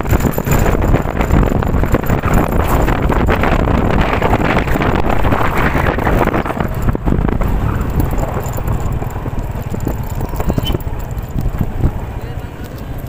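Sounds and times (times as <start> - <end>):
strong wind gusting: 0.0 - 13.0.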